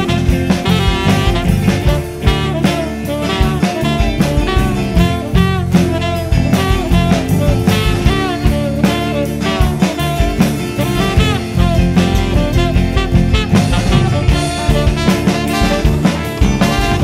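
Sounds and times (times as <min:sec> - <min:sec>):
drum kit beat: 0:00.0 - 0:17.0
jazz rock instrumental: 0:00.0 - 0:17.0
lead guitar with sliding notes: 0:00.0 - 0:17.0.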